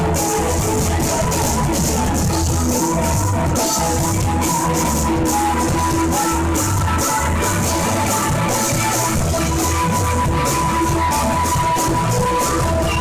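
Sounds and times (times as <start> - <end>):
bass: 0.0 - 13.0
drums: 0.0 - 13.0
electric guitar: 0.0 - 13.0
keyboards: 0.0 - 13.0.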